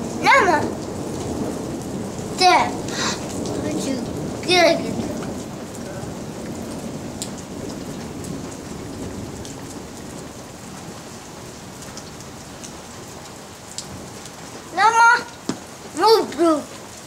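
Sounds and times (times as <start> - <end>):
low thunder rumble: 0.0 - 16.4
raindrops ticking: 0.0 - 17.0
steady rain falling: 0.0 - 17.0.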